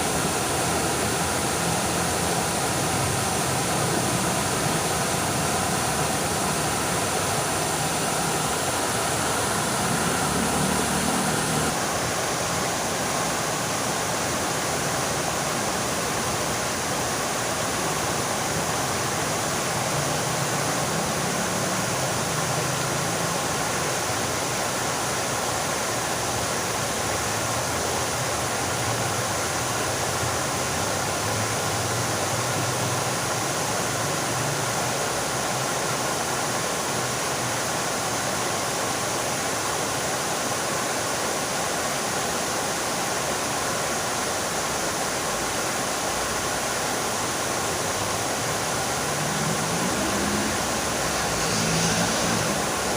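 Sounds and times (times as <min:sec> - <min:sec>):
fountain water splashing: 0:00.0 - 0:52.9.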